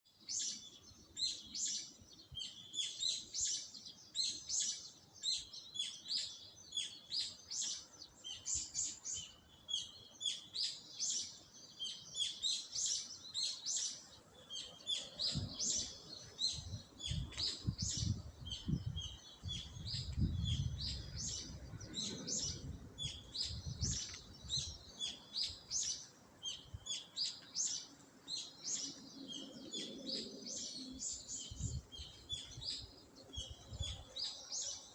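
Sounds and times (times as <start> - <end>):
songbirds chirping: 0.1 - 34.9.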